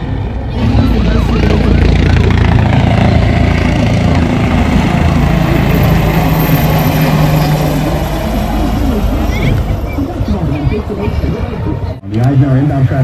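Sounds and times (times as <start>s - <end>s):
low hum: 0.0s - 13.0s
vehicle engine rumbling: 0.0s - 13.0s.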